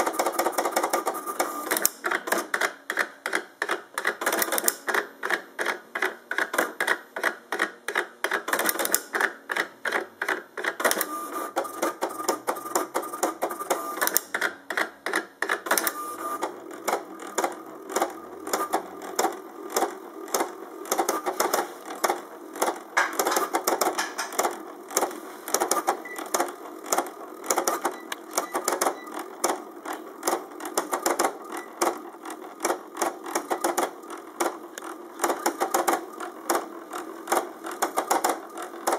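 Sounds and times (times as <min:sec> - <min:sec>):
pen plotter clicking and whirring: 0:00.0 - 0:38.9.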